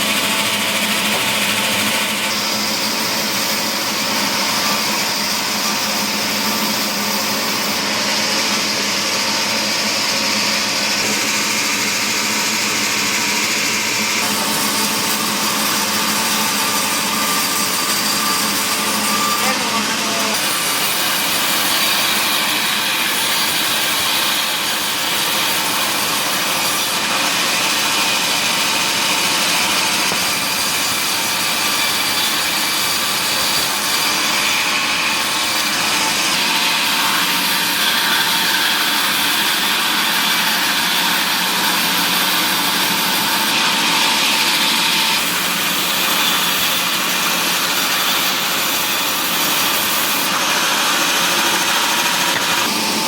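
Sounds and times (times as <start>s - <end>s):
power saw cutting wood: 0.0s - 53.0s.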